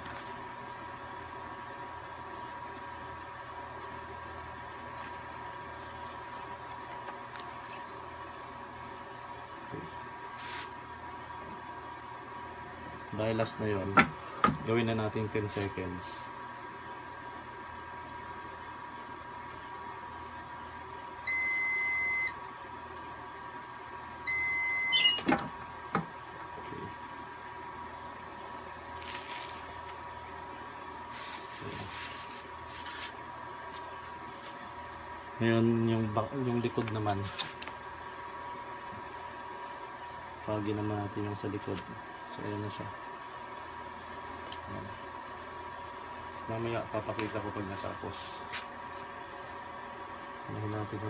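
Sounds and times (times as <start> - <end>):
electrical hum with high whine: 0.0 - 51.0.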